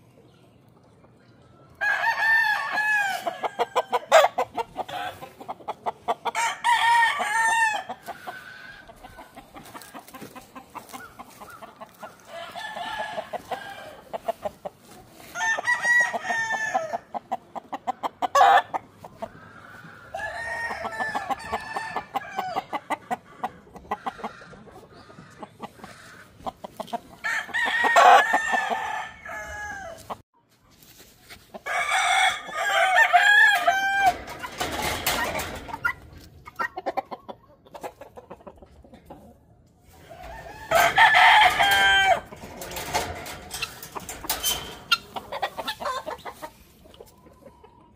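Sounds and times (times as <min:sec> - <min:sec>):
roosters crowing: 0:01.8 - 0:17.3, 0:18.0 - 0:30.2, 0:31.5 - 0:37.0, 0:39.8 - 0:46.6
hens clucking: 0:02.3 - 0:30.2, 0:31.4 - 0:47.9.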